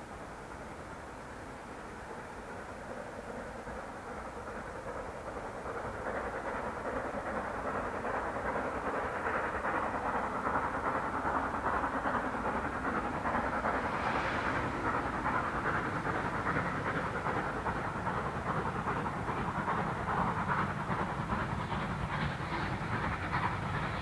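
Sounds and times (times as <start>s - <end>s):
steam locomotive exhaust beats: 0.0s - 24.0s.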